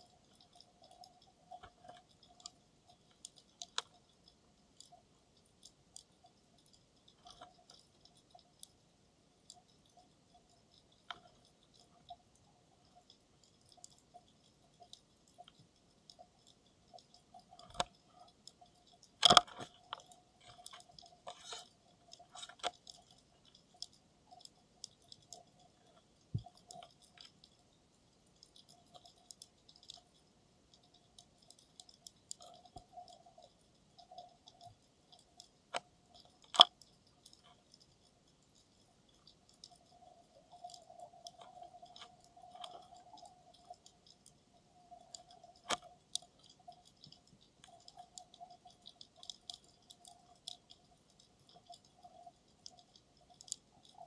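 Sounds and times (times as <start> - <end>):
faint steady hum: 0.0 - 54.0
underwater clicks and crackles: 0.0 - 54.0.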